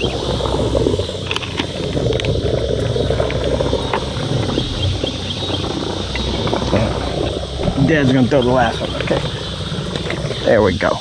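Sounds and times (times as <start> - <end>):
trolling motor humming: 0.0 - 11.0.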